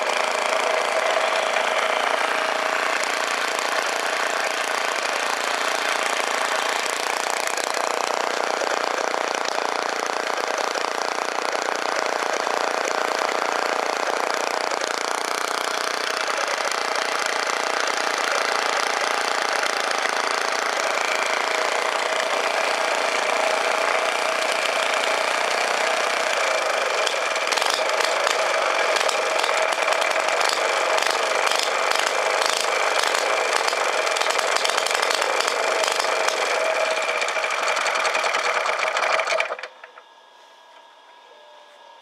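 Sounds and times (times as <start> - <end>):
stationary engine running: 0.0 - 40.0.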